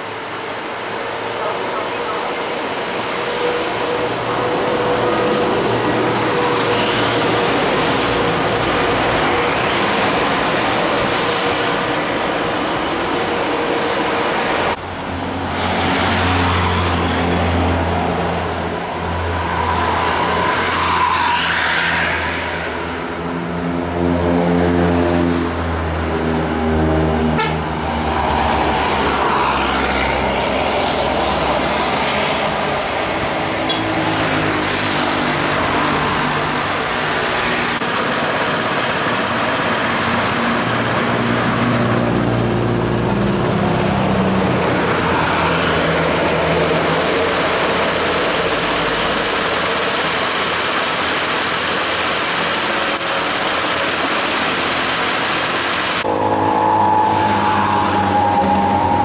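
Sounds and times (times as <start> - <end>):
heavy bus engine drone: 0.0 - 59.0
cars driving past: 1.4 - 38.3, 39.0 - 59.0.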